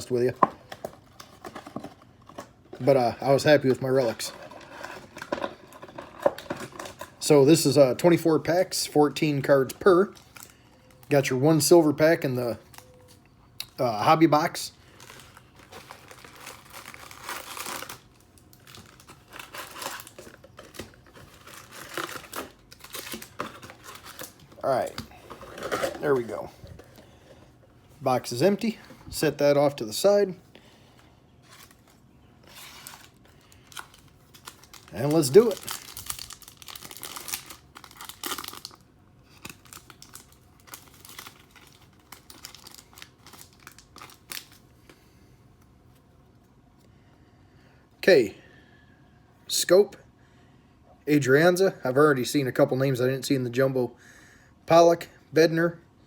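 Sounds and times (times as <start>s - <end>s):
card packs crinkling: 0.0s - 45.0s.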